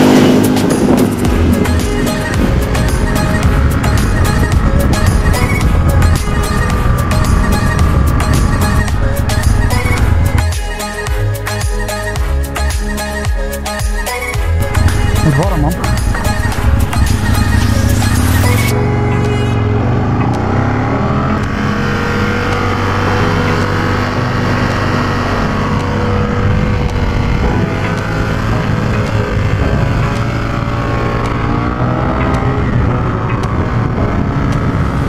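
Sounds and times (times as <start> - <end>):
motorcycle engine revving: 0.0 - 10.6, 14.6 - 35.0.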